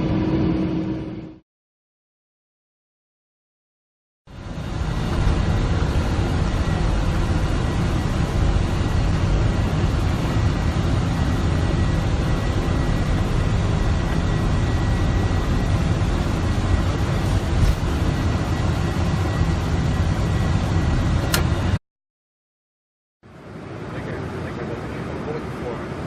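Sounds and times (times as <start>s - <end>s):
jet engines rumbling: 0.0s - 1.4s, 4.3s - 21.8s, 23.3s - 26.0s.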